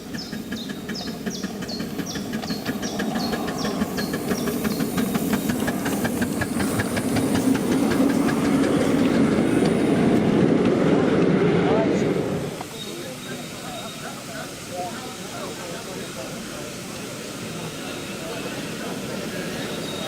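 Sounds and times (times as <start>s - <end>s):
steam hissing: 0.0s - 11.0s, 12.1s - 20.0s
steam locomotive exhaust beats: 0.0s - 11.3s, 12.2s - 20.0s.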